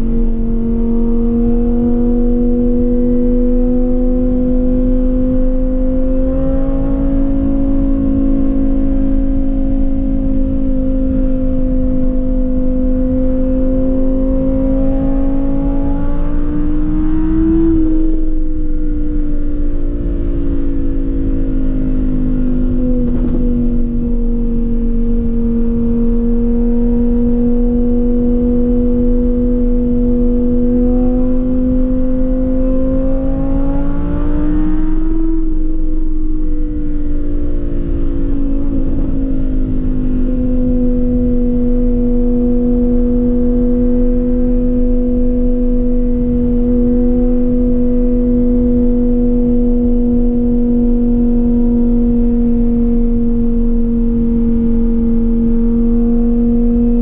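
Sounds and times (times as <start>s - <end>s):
car engine drone: 0.0s - 57.0s
road noise: 0.0s - 57.0s.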